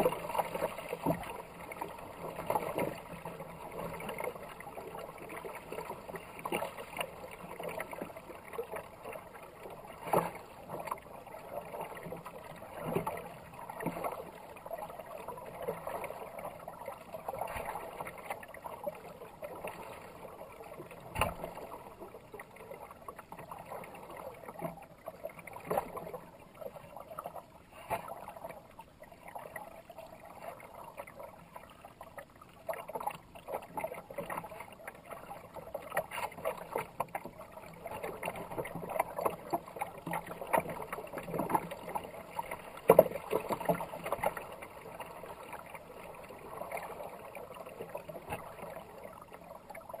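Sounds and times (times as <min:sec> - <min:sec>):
paddle splashing in water: 0:00.0 - 0:26.2, 0:32.6 - 0:50.0.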